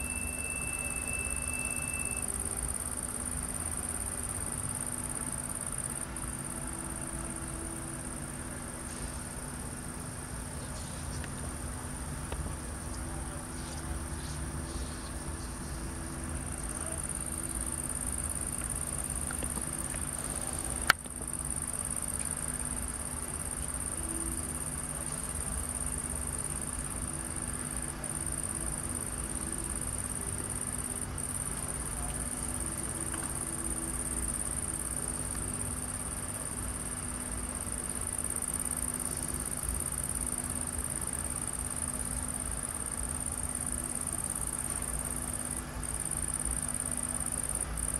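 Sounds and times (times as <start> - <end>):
crickets chirring: 0.0 - 47.9
low steady hum: 0.0 - 47.9.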